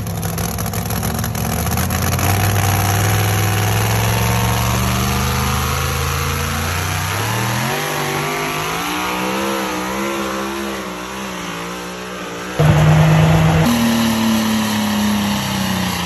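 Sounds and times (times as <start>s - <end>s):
pulling truck engine at full power: 0.0s - 16.0s.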